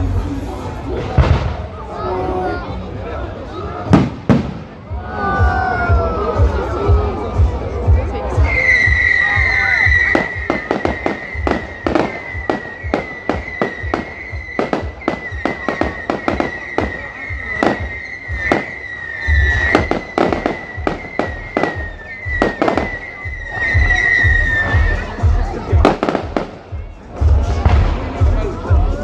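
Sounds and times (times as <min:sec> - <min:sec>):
fireworks bangs and crackles: 0:00.0 - 0:29.0
deep fireworks booms: 0:01.0 - 0:02.0, 0:03.8 - 0:06.0, 0:08.4 - 0:28.9.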